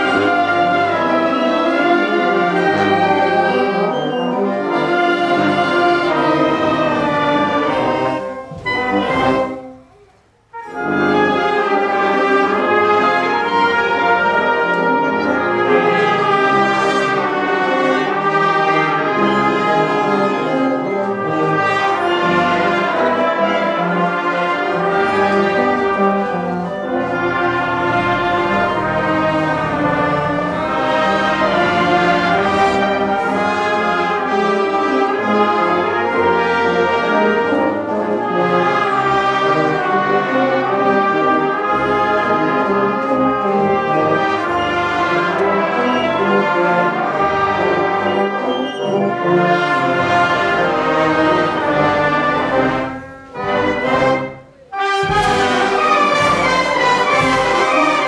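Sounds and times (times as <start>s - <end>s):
wind bands playing: 0.0s - 58.0s.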